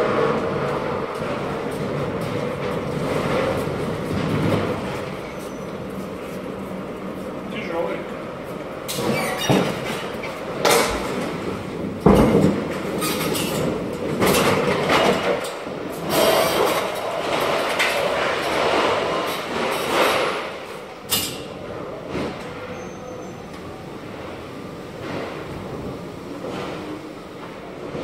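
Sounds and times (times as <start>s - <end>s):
pallet jack wheels rumbling: 0.0s - 28.0s.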